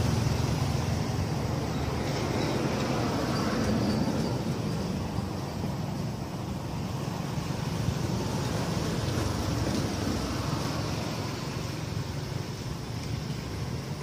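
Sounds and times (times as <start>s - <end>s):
low rumbling outdoor noise: 0.0s - 14.0s.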